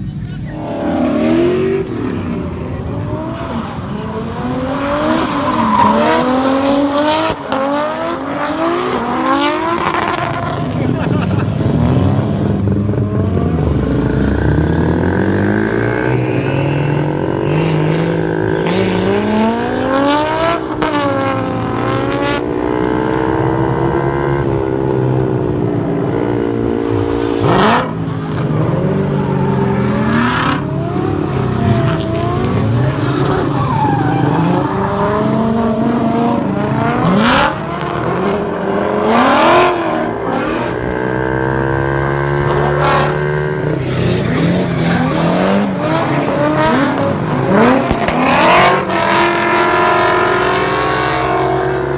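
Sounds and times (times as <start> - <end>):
car engines revving: 0.0 - 51.9.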